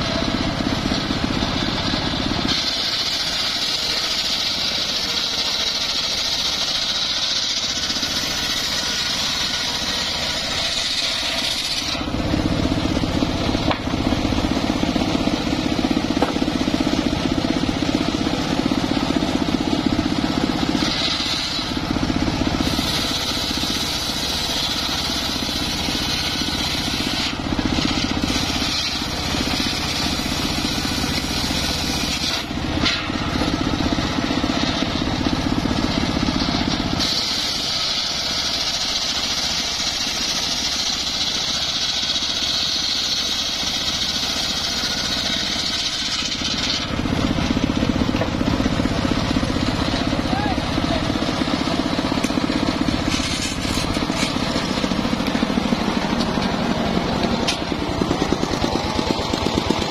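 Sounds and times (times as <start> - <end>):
circular saw bench engine running: 0.0 - 59.9
saw blade cutting wood: 0.0 - 59.9.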